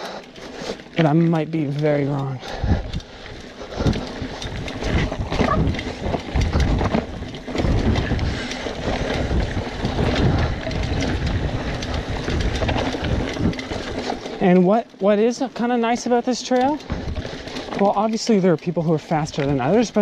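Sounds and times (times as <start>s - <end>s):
bike clicks and rattles: 0.0s - 20.0s
bike tyre noise on dirt: 0.0s - 20.0s.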